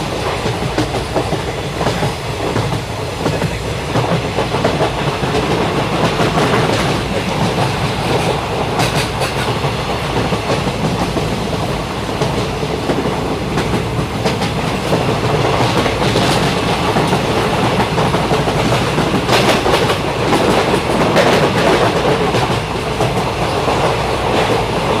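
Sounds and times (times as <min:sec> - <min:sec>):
train wheels rumbling on track: 0:00.0 - 0:25.0
wheels clacking over rail joints: 0:00.0 - 0:25.0.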